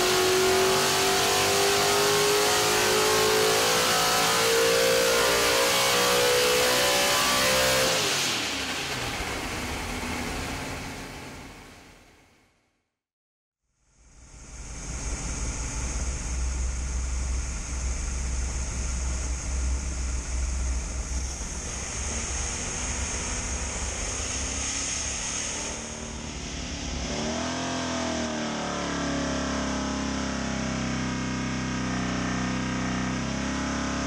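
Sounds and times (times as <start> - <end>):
race engine running under load: 0.0 - 12.0, 14.3 - 34.0.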